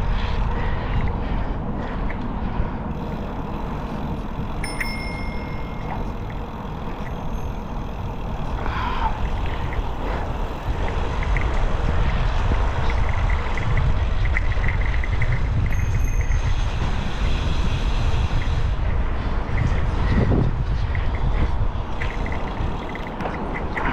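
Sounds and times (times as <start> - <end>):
bicycle tyre noise: 0.0 - 23.9
wind buffeting microphone: 0.0 - 23.9.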